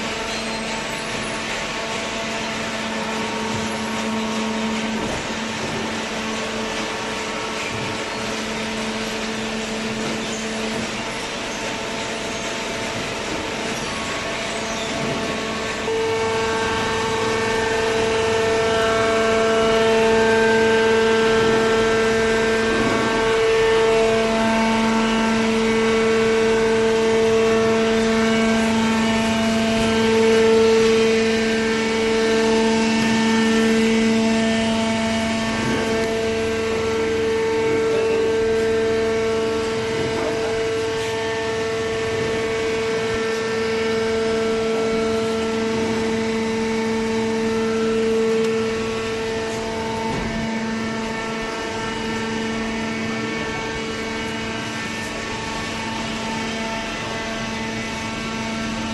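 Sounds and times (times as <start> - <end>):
hydraulic pump whine: 0.0 - 58.9.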